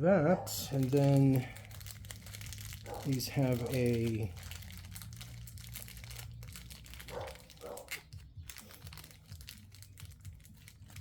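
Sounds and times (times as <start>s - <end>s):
crinkling of packaging: 0.4s - 11.0s.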